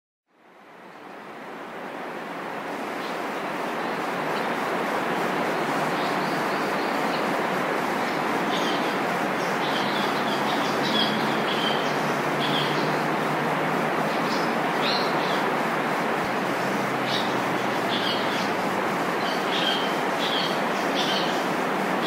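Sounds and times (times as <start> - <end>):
steady rushing background noise: 0.4 - 22.0.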